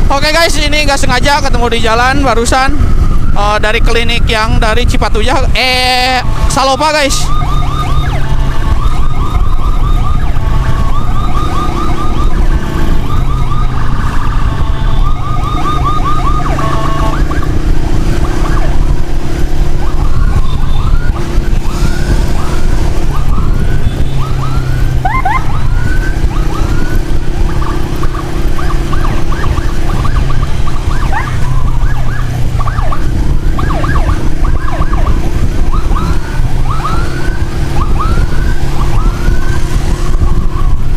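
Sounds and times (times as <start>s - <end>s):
emergency siren warbling: 0.0s - 40.9s
low rumble of traffic: 0.0s - 40.9s
wind: 0.0s - 40.9s.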